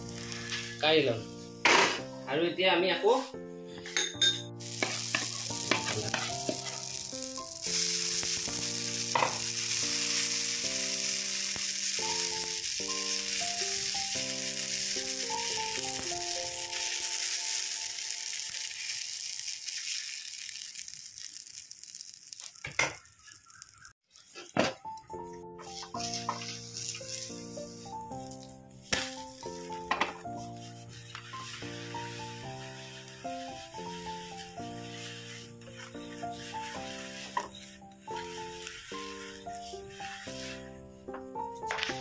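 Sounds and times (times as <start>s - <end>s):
batter sizzling on hot pan: 0.0s - 2.1s, 3.9s - 42.0s
background music: 0.0s - 18.5s, 24.6s - 42.0s.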